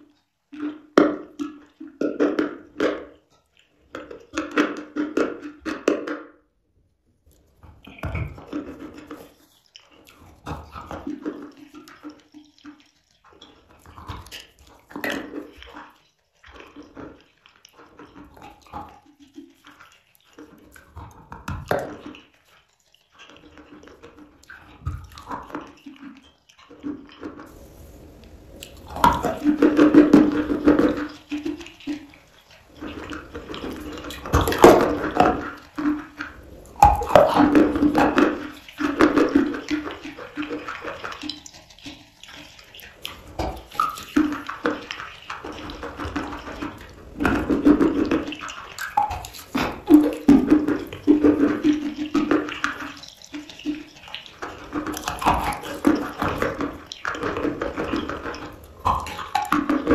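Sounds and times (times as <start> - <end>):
wet squishy mouth sounds: 0.0 - 6.5, 7.2 - 59.9
crunchy chewing: 7.2 - 59.9.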